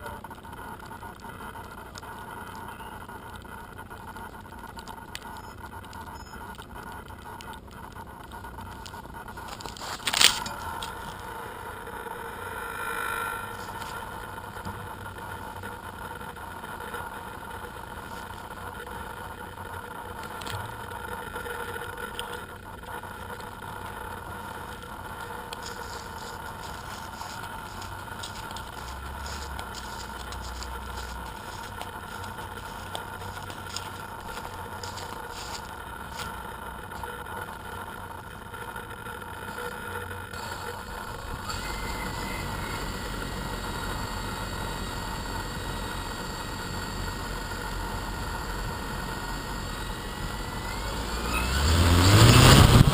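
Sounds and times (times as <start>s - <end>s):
drone motors and propellers humming: 0.0s - 52.9s.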